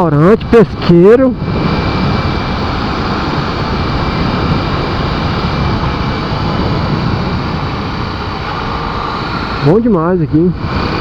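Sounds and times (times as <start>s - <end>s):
wind and road noise: 0.0s - 11.0s
motorcycle engine running: 0.4s - 11.0s.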